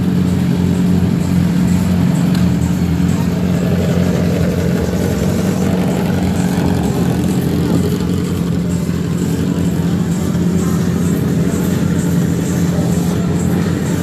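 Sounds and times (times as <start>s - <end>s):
motorcycle engines droning: 0.0s - 14.0s.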